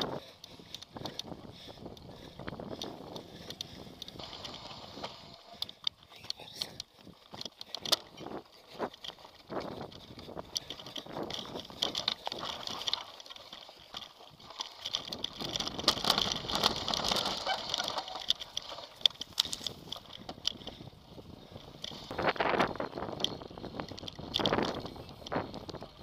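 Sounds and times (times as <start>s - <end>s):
bike rattling over bumps: 0.0s - 26.0s.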